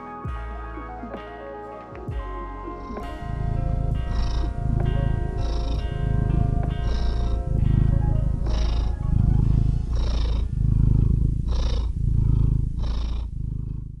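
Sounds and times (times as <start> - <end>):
soft background music: 0.0 - 11.9
cat purring: 2.6 - 14.0.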